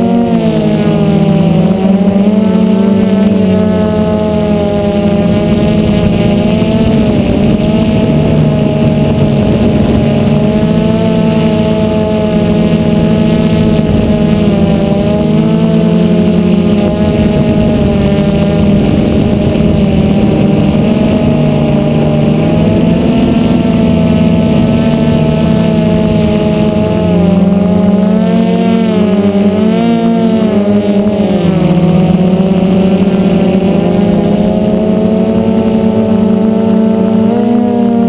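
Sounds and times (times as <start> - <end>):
drone propellers whirring: 0.0 - 38.0.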